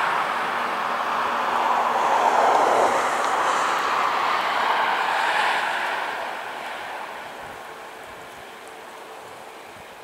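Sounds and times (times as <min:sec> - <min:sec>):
jet engines rushing: 0:00.0 - 0:09.7.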